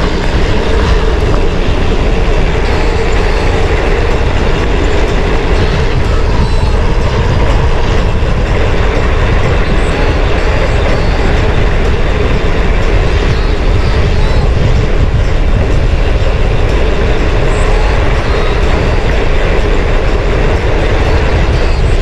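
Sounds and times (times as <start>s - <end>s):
mountain bike rattling on dirt: 0.0s - 22.0s
wind on microphone: 0.0s - 22.0s.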